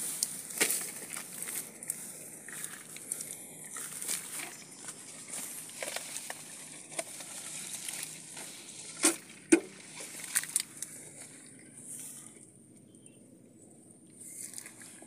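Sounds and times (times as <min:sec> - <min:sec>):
dry grass rustling and crackling: 0:00.0 - 0:12.4, 0:14.2 - 0:15.0.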